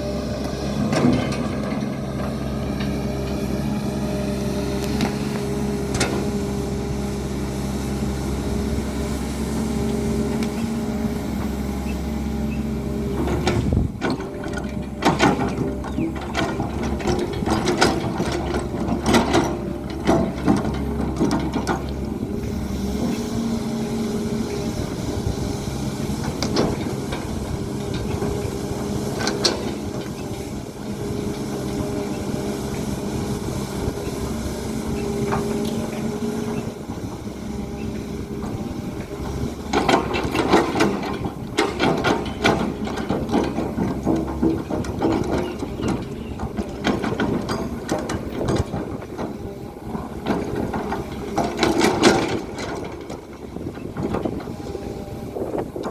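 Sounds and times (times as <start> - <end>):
steel tracks clanking and rattling: 0.0 - 7.4, 8.1 - 55.9
excavator diesel engine running: 0.0 - 55.9.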